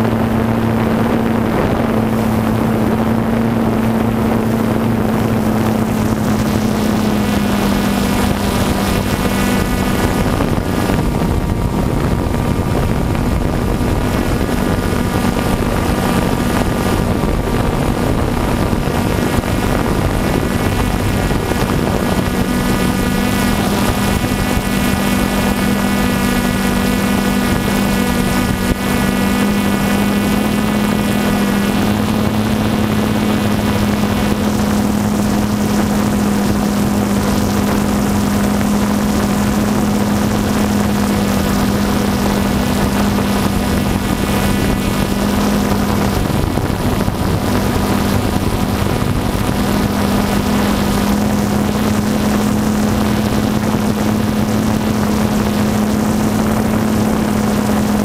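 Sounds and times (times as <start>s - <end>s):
drone motors humming: 0.0s - 58.0s.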